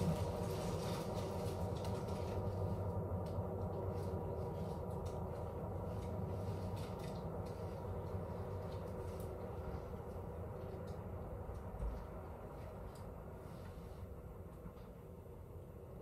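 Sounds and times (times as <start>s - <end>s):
ambient electronic drone: 0.0s - 16.0s.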